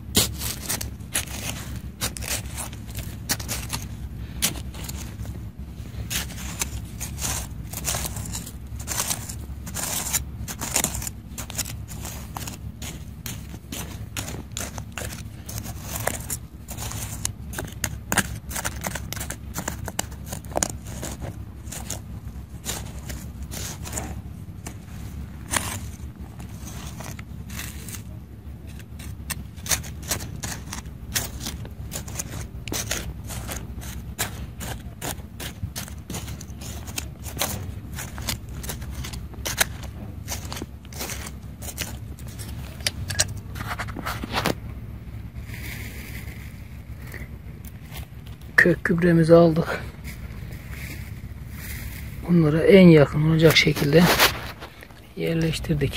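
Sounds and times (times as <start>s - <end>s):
trowel scraping stony soil: 0.0s - 44.6s, 45.3s - 55.9s
steady low rumble: 0.0s - 55.9s.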